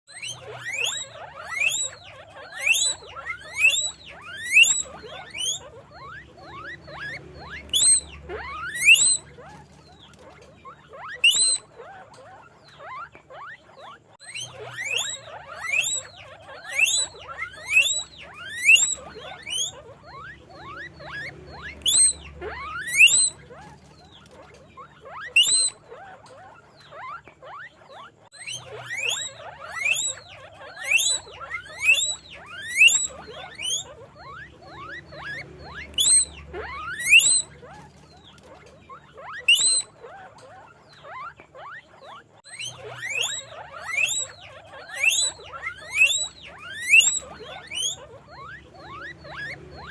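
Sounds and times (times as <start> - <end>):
guinea pig wheeking: 0.1 - 49.9.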